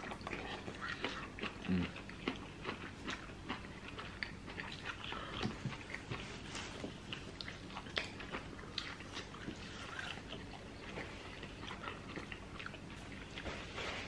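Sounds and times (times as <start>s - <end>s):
chewing and mouth smacks: 0.0s - 14.0s.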